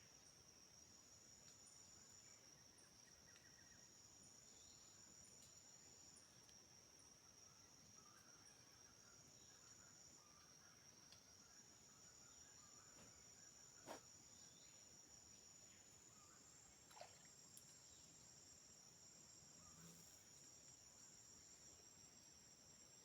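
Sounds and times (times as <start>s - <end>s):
insect chorus: 0.0s - 23.0s.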